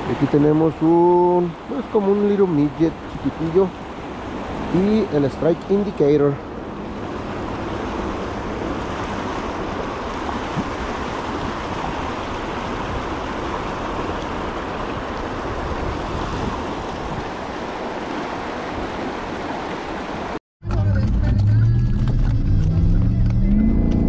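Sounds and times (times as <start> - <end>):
river rushing over rocks: 0.0 - 20.4.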